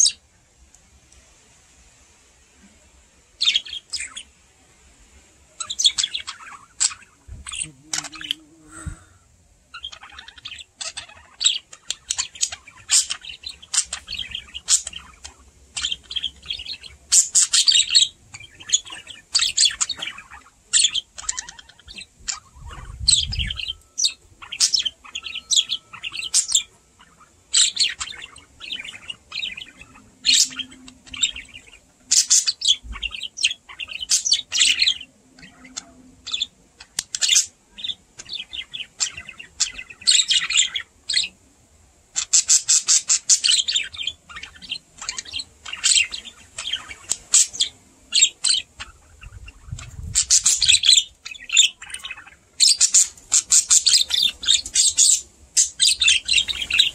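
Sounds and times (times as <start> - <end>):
budgerigars chirping: 3.4 - 4.3, 5.6 - 9.0, 9.7 - 41.4, 42.1 - 56.9.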